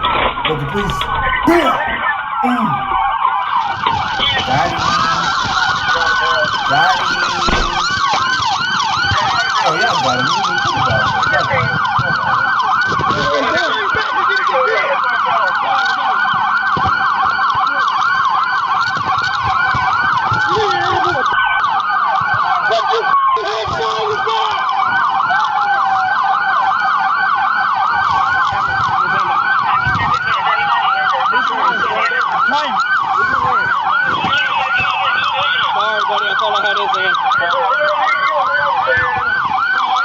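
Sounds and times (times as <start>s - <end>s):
police siren wail: 0.0s - 40.0s
police siren yelp: 0.0s - 40.0s.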